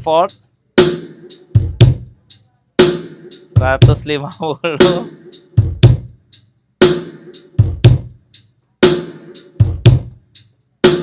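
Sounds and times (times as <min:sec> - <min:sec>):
drum-heavy music through speaker: 0:00.0 - 0:11.0.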